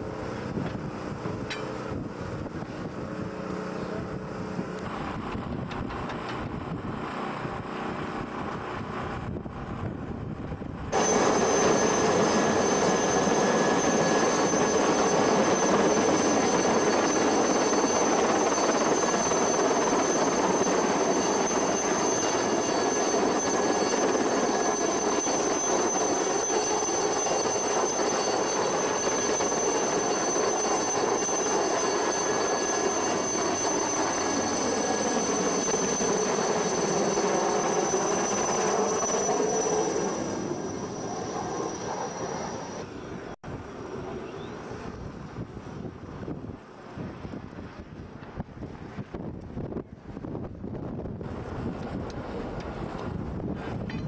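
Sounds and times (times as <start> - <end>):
helicopter rotor and engine noise: 0.0 - 54.0
high turbine whine: 0.0 - 54.0.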